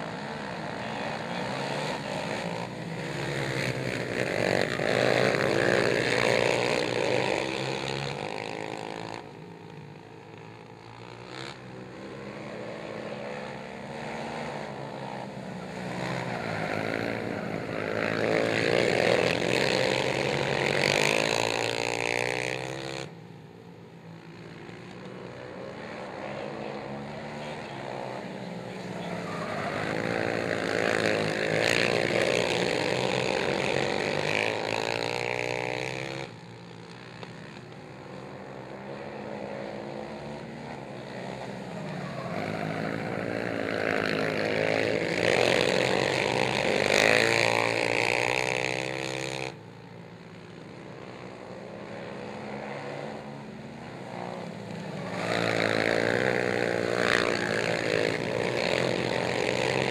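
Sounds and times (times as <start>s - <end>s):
atv engines revving past: 0.0s - 59.9s.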